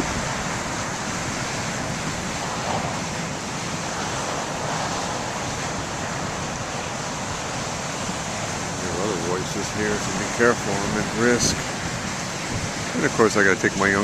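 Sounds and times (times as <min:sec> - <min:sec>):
heavy surf breaking: 0:00.0 - 0:14.0
strong wind blowing: 0:00.0 - 0:14.0.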